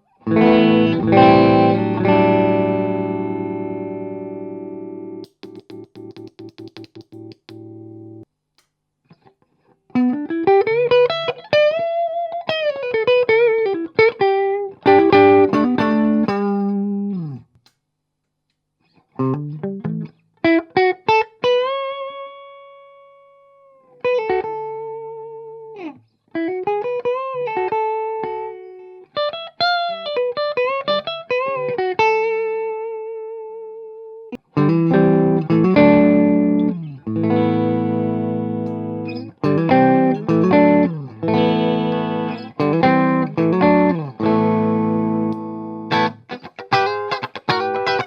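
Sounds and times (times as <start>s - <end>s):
clean electric guitar: 0.0s - 8.2s, 9.9s - 17.6s, 18.9s - 48.0s.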